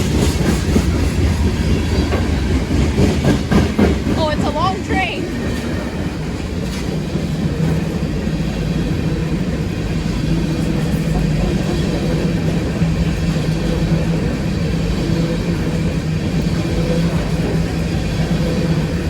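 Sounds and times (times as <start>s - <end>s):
train rumbling by: 0.0s - 19.0s.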